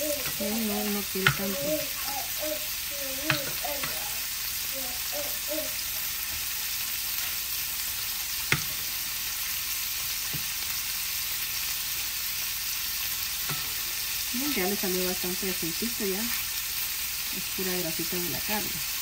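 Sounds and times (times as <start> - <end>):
meatballs sizzling in frying pan: 0.0 - 19.0.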